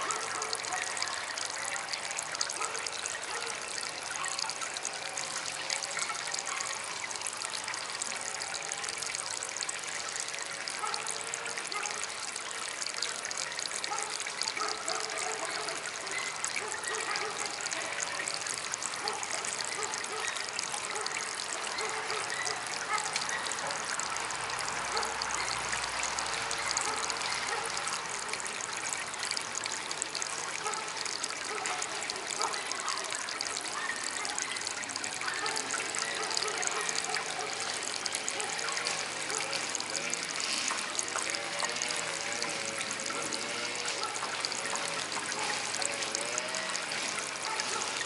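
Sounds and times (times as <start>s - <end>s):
fountain water trickling and splashing: 0.0s - 48.0s.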